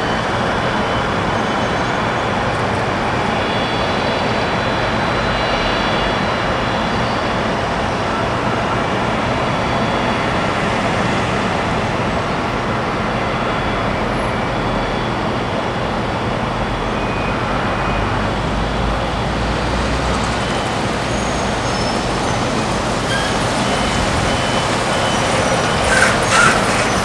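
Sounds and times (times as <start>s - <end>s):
jet engines rushing: 0.0s - 27.0s.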